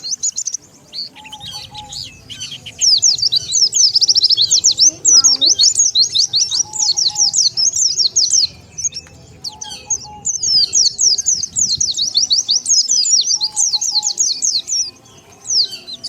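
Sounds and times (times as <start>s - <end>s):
bird twittering song: 0.0s - 16.0s.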